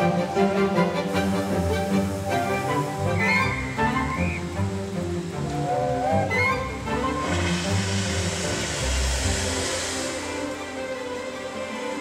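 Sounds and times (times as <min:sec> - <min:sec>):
background music with held notes: 0:00.0 - 0:12.0
steady hiss: 0:00.0 - 0:12.0.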